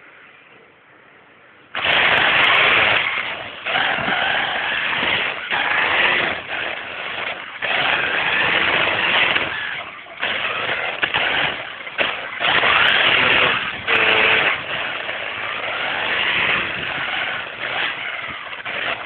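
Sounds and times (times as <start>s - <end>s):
small engine revving in bursts: 1.7s - 19.0s.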